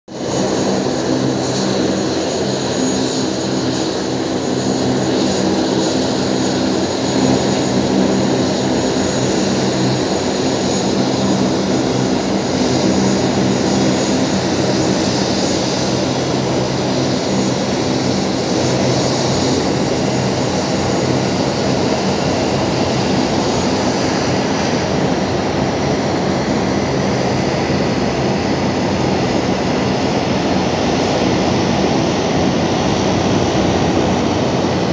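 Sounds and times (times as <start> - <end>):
high turbine whine: 0.1 - 34.9
propeller drone: 0.1 - 34.9.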